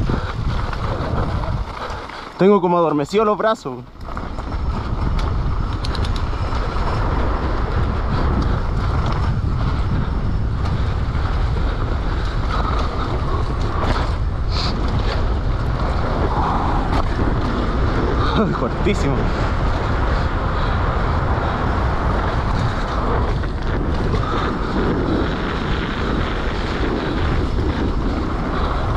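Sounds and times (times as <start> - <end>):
wind on microphone: 0.0 - 2.4, 3.9 - 28.9
bike rattles: 0.0 - 28.9
mountain bike rolling rumble: 0.0 - 28.9.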